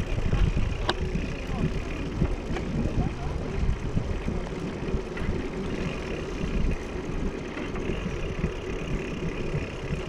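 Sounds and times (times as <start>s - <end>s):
bicycle tyres rolling on asphalt: 0.0s - 10.0s
wind buffeting microphone: 0.0s - 10.0s.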